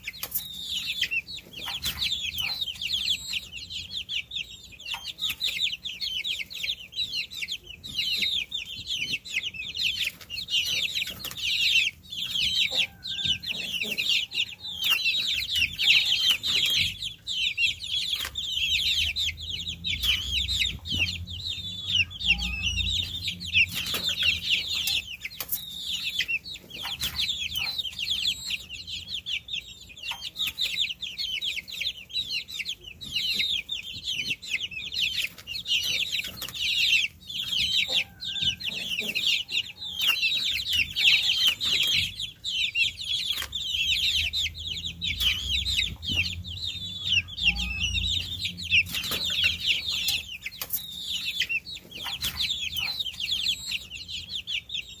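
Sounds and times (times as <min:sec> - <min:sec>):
baby chicks peeping: 0:00.0 - 0:55.0.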